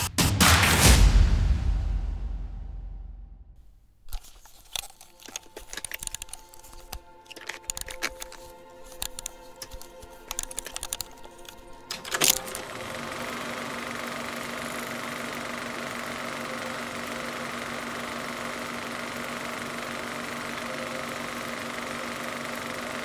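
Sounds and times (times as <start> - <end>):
film projector whirring: 4.1 - 23.0.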